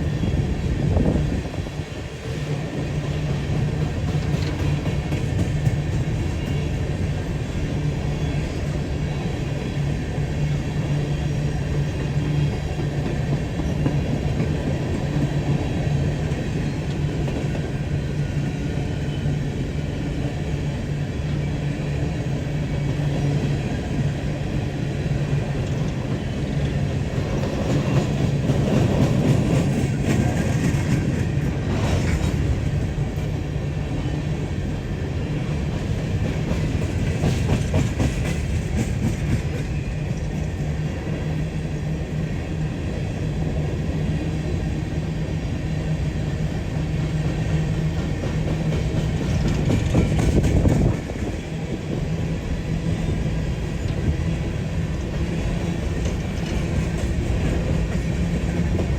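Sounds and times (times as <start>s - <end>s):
freight train wheels rumbling on rail: 0.0s - 58.9s.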